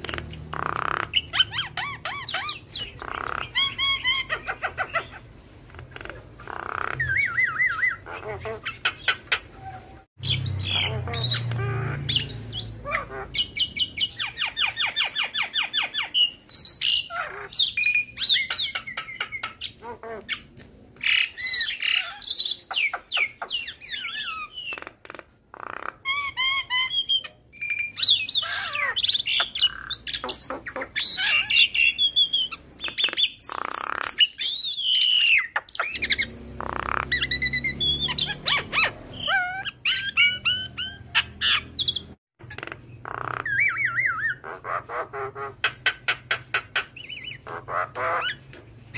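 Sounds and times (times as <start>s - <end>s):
myna bird singing: 0.0s - 48.9s.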